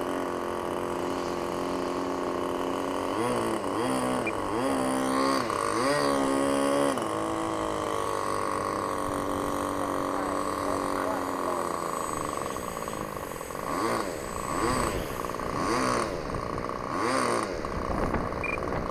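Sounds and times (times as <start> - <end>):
model plane motor whining: 0.0 - 18.9.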